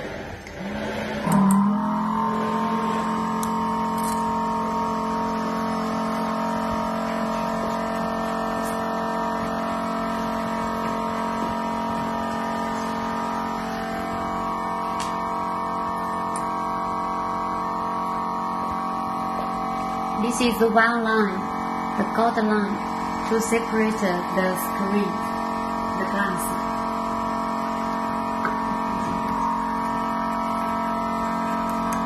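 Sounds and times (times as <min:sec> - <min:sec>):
electric motor humming: 0:00.1 - 0:32.0.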